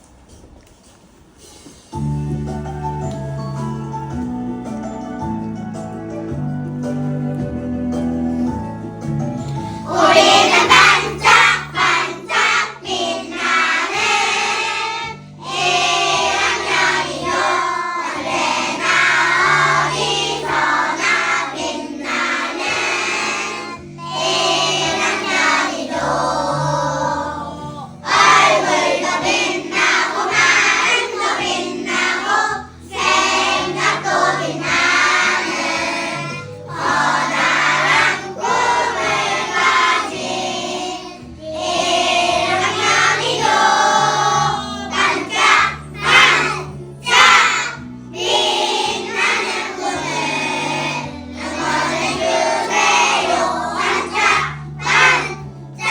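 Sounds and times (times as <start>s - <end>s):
musical accompaniment: 0.0s - 55.9s
children's choir singing: 9.6s - 55.9s.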